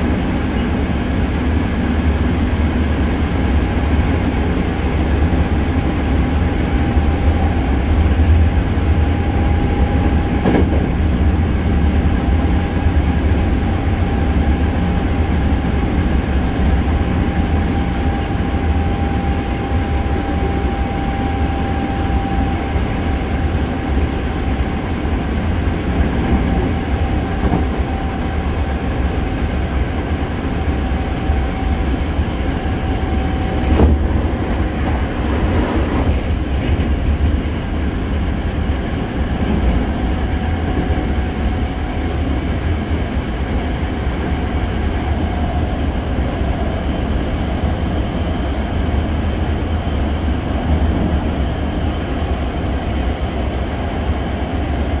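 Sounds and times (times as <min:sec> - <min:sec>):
passing train rush: 0:00.0 - 0:55.0
train wheels rumbling on rail: 0:00.0 - 0:55.0.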